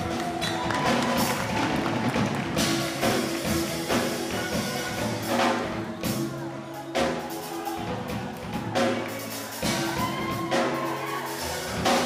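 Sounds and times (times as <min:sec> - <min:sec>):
drum kit and cymbal hits: 0:00.0 - 0:12.0.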